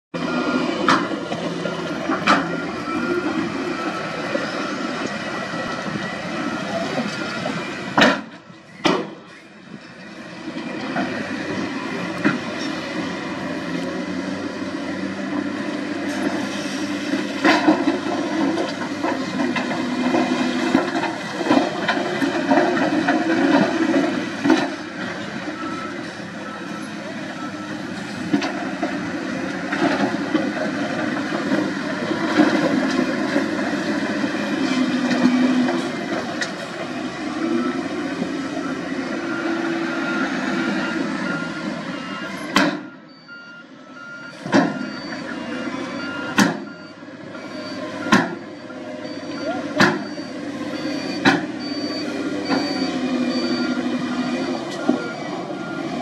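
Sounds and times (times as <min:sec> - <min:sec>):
heavy diesel machinery: 0:00.1 - 0:56.0.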